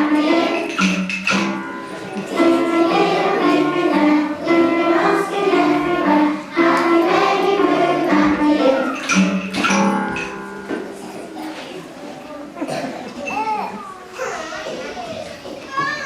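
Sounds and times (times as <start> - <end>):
children's choir singing: 0.0 - 12.9.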